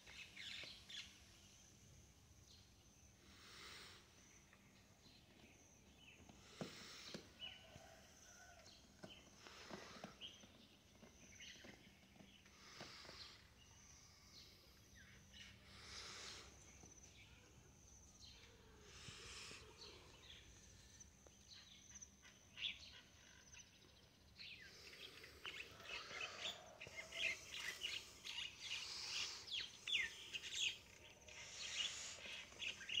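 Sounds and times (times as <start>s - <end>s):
faint birds chirping: 0.0s - 33.0s.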